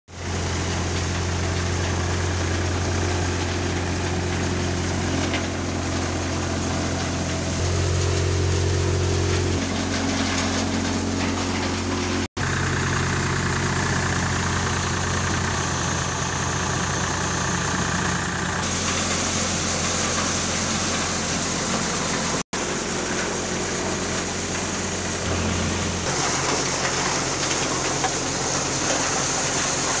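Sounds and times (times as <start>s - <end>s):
threshing machine drone: 0.1s - 30.0s
tractor engines running: 0.1s - 30.0s.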